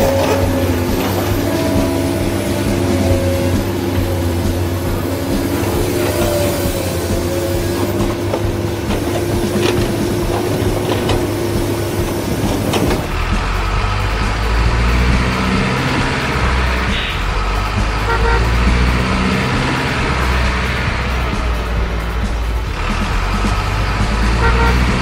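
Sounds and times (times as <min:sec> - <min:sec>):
truck horn blast: 0:00.0 - 0:14.0, 0:14.7 - 0:21.3, 0:22.9 - 0:25.0
diesel truck engine rumbling: 0:00.0 - 0:25.0.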